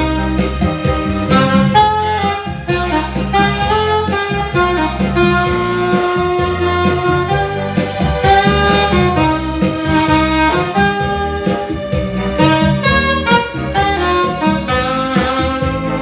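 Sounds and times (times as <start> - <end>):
bass: 0.0 - 16.0
percussion: 0.0 - 16.0
saxophone melody: 0.0 - 16.0.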